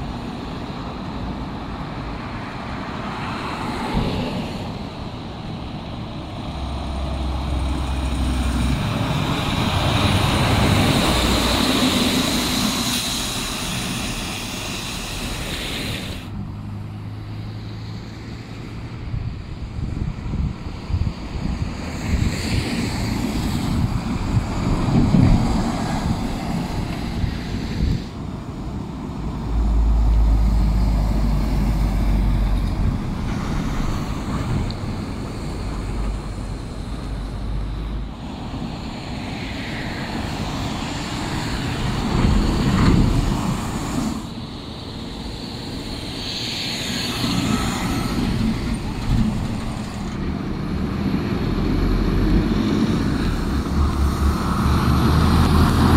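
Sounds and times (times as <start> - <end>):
diesel trucks driving past: 0.0 - 55.9
tyres on wet pavement: 0.0 - 55.9.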